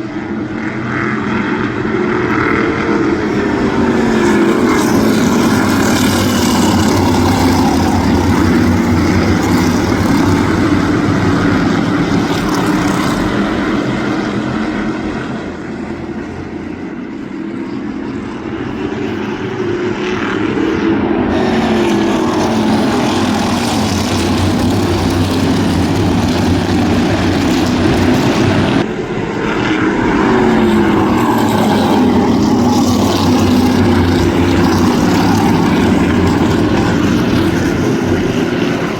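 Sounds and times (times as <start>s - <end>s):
race car engines passing: 0.0s - 38.9s.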